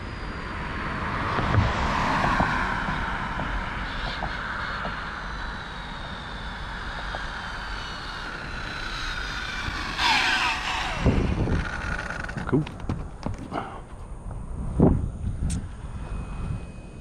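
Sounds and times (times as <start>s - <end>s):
rc truck motor whine: 0.0s - 17.0s
road noise: 0.0s - 17.0s
van passing with tyre noise: 0.0s - 17.0s.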